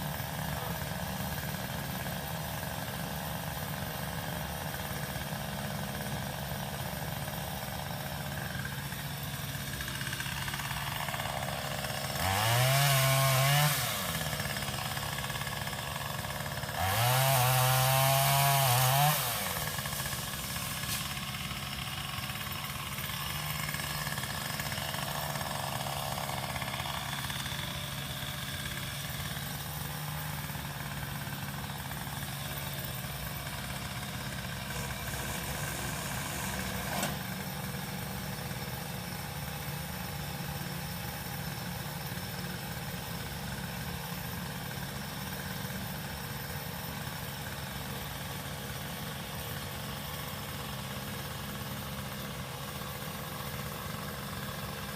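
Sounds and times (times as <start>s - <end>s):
pole saw engine idling and revving: 0.0s - 54.9s.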